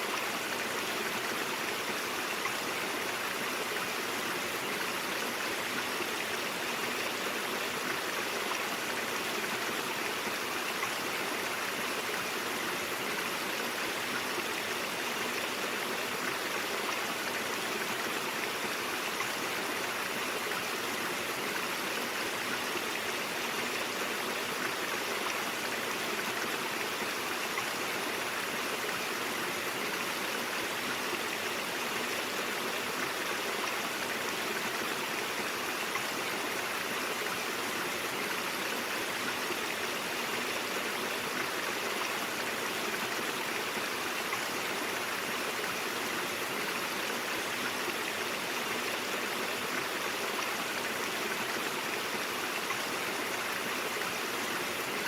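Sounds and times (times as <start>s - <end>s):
brook water rushing: 0.0s - 55.0s.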